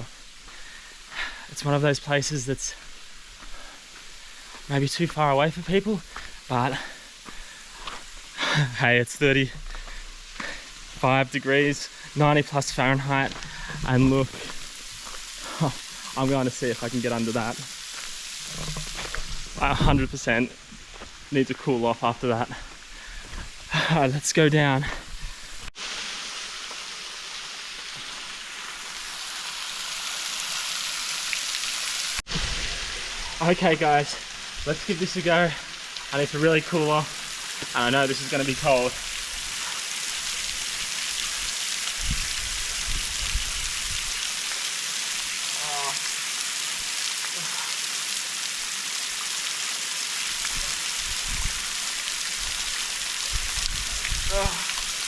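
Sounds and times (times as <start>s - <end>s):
waterfall splashing: 0.0s - 24.9s, 25.7s - 55.0s.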